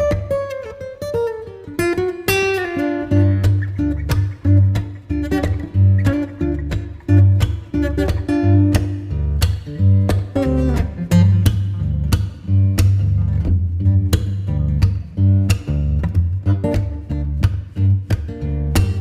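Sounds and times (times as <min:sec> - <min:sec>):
acoustic guitar strumming: 0:00.0 - 0:19.0
heavy bass line: 0:03.5 - 0:19.0.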